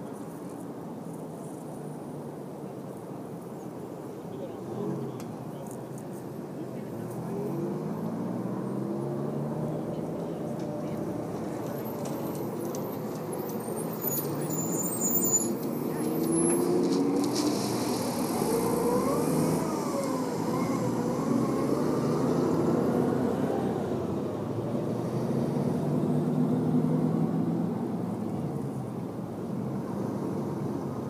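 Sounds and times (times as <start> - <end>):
road traffic passing: 0.0 - 31.0.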